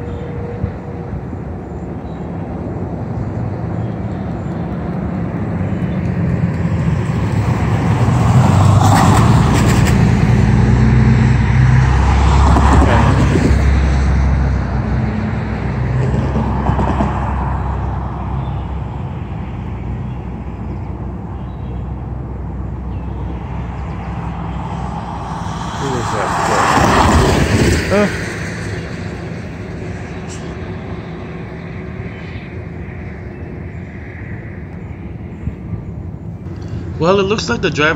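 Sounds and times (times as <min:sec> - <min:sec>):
road vehicle passing: 0:00.0 - 0:37.9.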